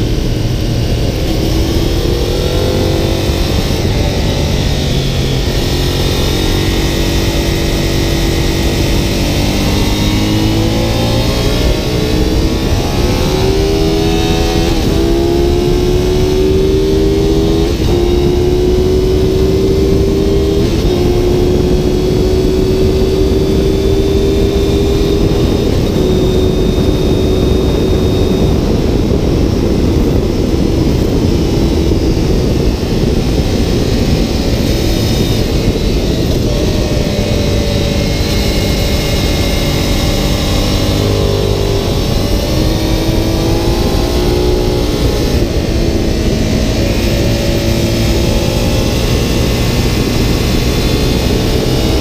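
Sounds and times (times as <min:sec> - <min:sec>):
motorcycle engine accelerating: 0:00.0 - 0:52.0
wind rush on microphone: 0:00.0 - 0:52.0.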